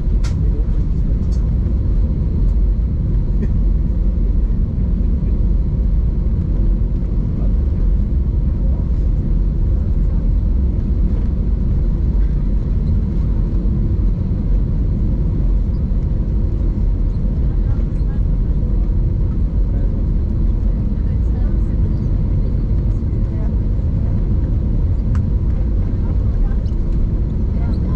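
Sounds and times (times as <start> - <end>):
aircraft cabin engine rumble: 0.0 - 27.9.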